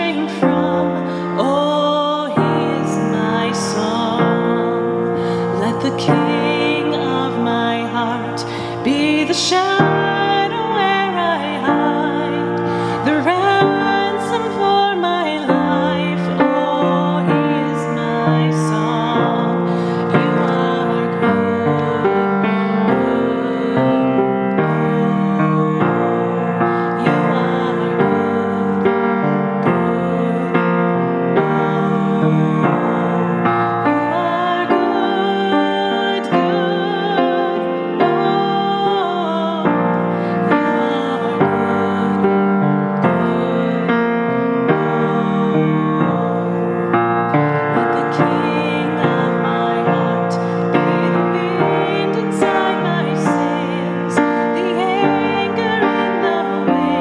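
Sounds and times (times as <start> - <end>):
grand piano: 0.0 - 57.0
woman singing worship song: 0.0 - 57.0.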